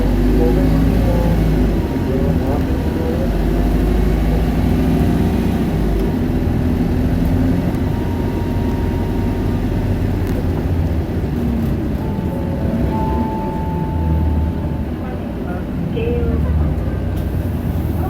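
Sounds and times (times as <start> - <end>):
bus engine running: 0.0 - 18.0.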